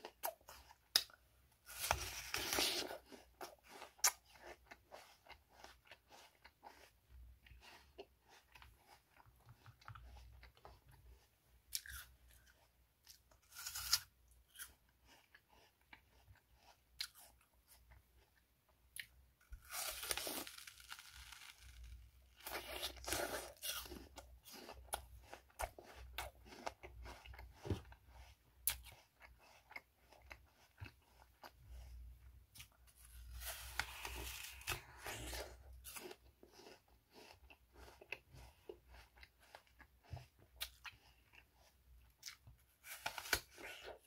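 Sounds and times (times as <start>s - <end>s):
person chewing crisp apple: 0.0s - 44.0s.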